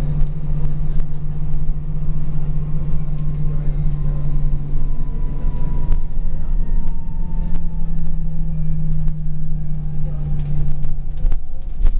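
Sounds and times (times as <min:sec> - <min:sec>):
bus diesel engine running: 0:00.0 - 0:11.9
gearbox whine: 0:00.0 - 0:11.9.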